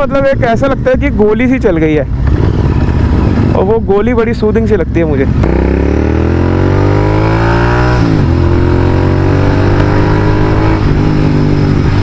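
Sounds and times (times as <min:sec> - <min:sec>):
motorcycle accelerating: 0:02.1 - 0:12.0.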